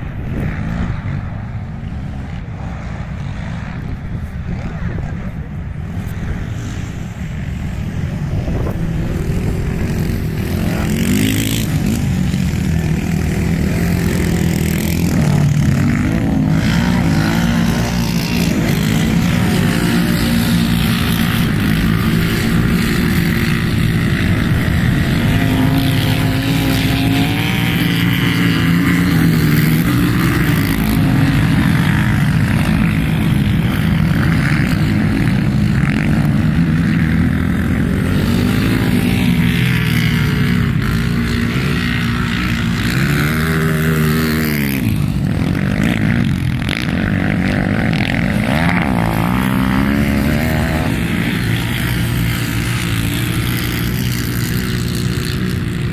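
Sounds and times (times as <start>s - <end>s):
quad bike engines revving: 0.0s - 55.9s.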